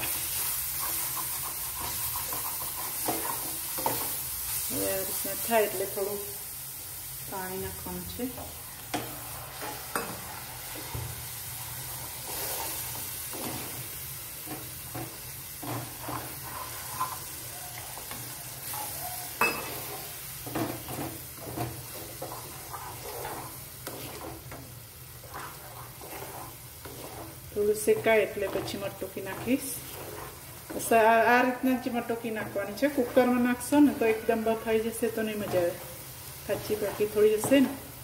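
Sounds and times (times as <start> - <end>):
spatula scraping a pan: 0.0 - 5.8, 8.8 - 38.0
paste sizzling in oil: 0.0 - 38.0.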